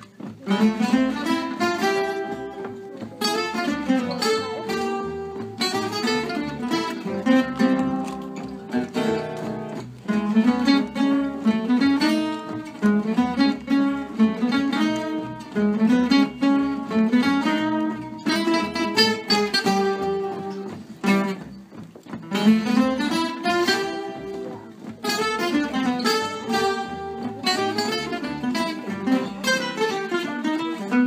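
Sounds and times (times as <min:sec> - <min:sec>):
acoustic guitars playing gypsy jazz: 0:00.0 - 0:31.0.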